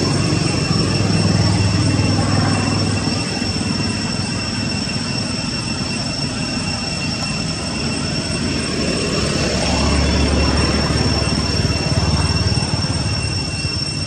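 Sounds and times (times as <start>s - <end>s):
high-pitched tones: 0.0s - 14.0s.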